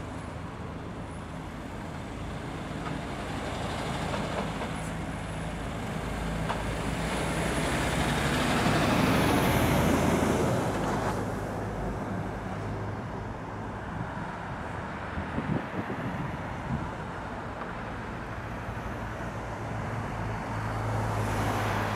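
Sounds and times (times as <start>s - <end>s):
tyre and road noise: 0.0s - 21.9s.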